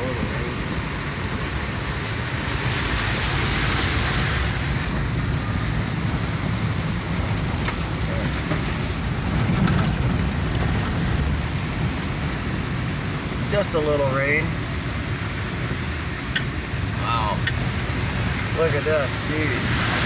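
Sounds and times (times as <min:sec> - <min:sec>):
car engine and tyres rumbling: 0:00.0 - 0:20.0
heavy rain beating on car: 0:00.0 - 0:20.0.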